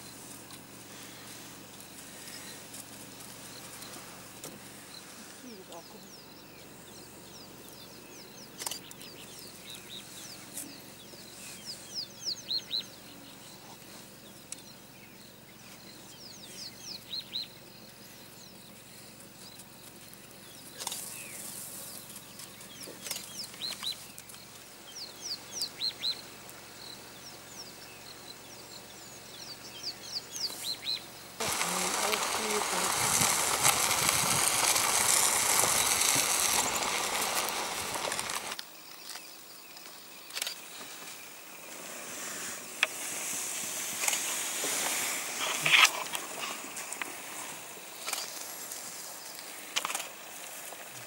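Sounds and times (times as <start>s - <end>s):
birds chirping: 0.0s - 51.0s
faint background hiss: 0.0s - 51.0s.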